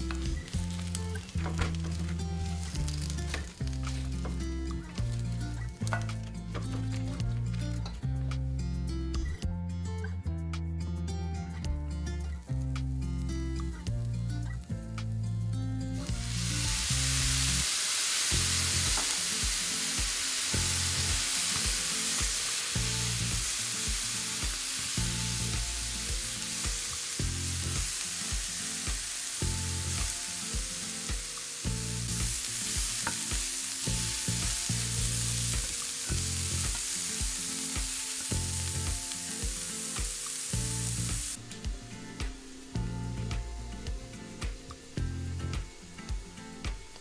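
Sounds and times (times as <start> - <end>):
mushrooms sizzling in a pan: 0.0 - 7.8, 12.4 - 47.0
background music: 0.0 - 47.0.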